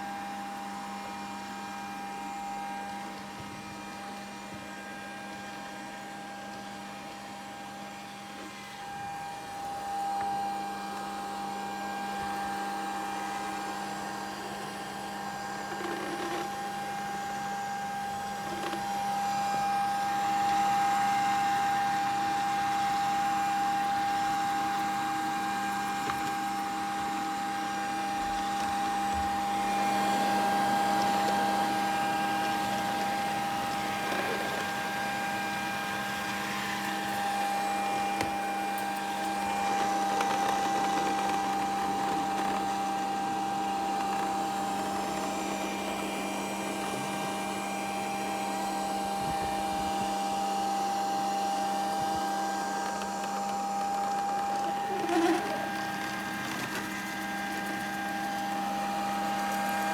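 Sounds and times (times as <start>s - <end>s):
robot vacuum motor hum: 0.2s - 59.9s.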